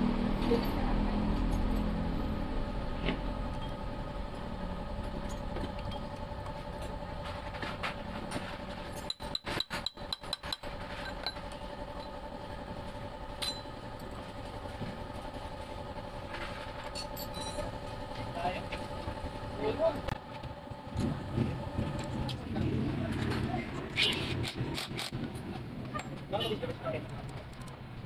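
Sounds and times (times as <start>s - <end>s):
steady engine hum: 0.0s - 28.0s.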